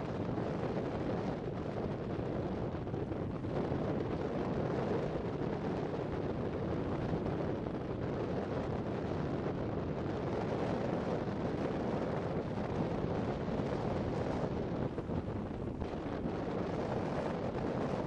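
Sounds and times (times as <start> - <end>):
wind blowing over microphone: 0.0 - 18.0.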